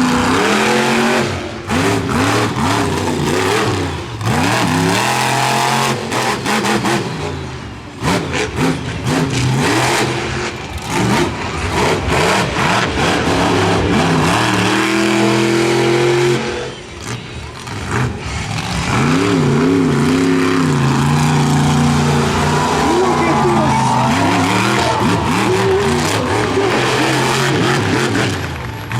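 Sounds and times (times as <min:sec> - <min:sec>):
truck engine revving: 0:00.0 - 0:28.9.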